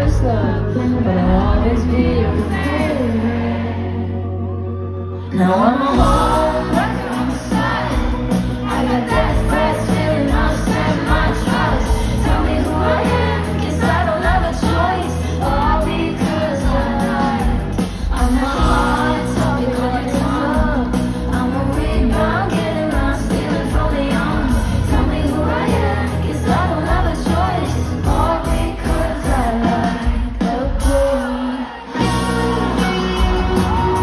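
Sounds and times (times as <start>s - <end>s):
woman singing with live band: 0.0s - 3.7s, 5.2s - 34.0s.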